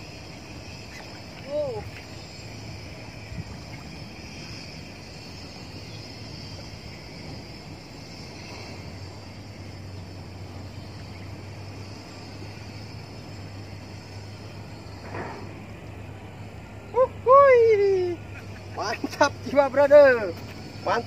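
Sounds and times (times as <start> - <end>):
faint high buzz: 0.0 - 21.0
low even hum: 0.0 - 21.0.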